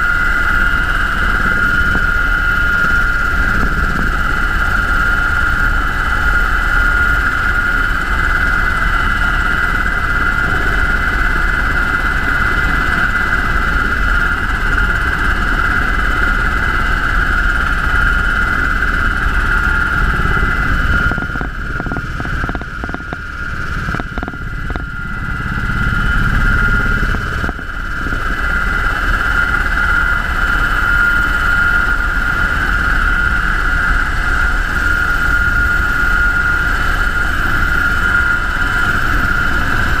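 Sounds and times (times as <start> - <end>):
helicopter in flight: 0.0 - 40.0.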